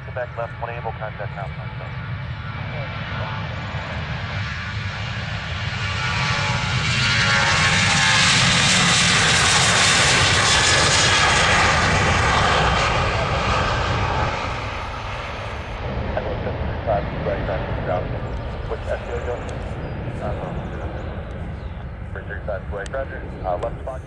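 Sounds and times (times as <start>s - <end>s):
airliner engine noise passing: 0.0s - 24.0s.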